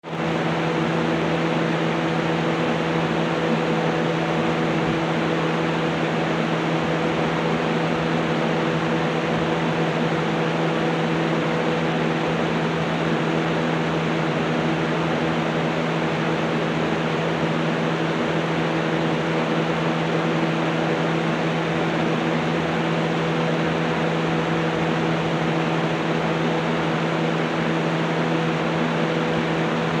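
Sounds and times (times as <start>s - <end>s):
electric fan running: 0.0s - 30.0s.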